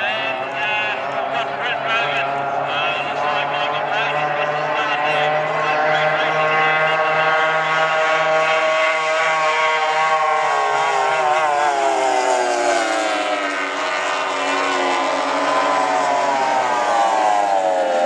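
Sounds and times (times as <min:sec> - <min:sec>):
outboard boat engines running hard: 0:00.0 - 0:18.0.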